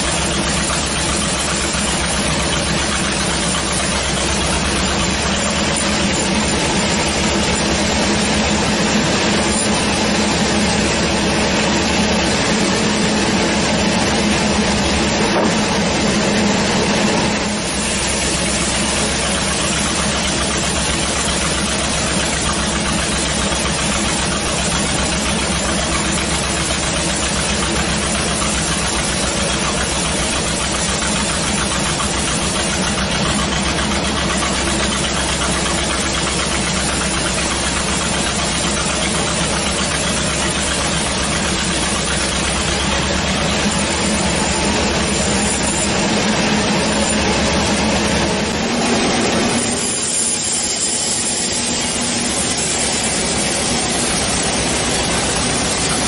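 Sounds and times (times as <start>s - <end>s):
band saw cutting timber: 0.0s - 56.0s.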